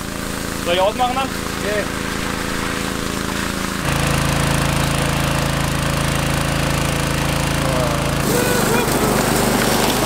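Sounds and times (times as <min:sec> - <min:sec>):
small water pump engine running: 0:00.0 - 0:10.0.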